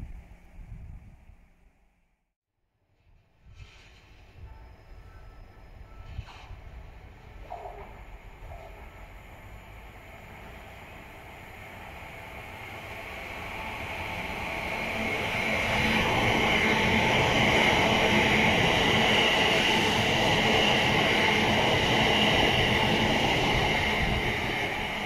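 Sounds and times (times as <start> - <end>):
electric train passing: 4.0 - 25.0.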